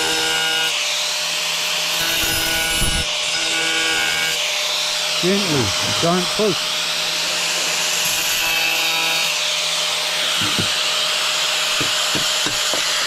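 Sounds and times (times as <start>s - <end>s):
angle grinder cutting tile: 0.0s - 13.0s.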